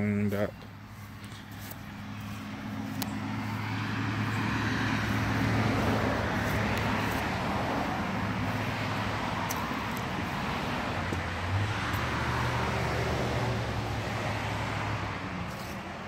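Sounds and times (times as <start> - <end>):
engine running: 0.0 - 16.0
broad rushing noise: 0.8 - 16.0.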